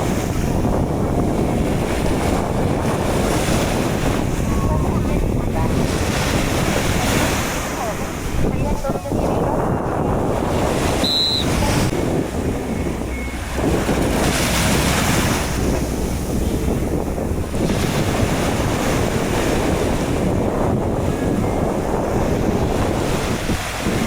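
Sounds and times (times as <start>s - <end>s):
surf washing onto beach: 0.0s - 24.0s
wind buffeting microphone: 0.0s - 24.0s.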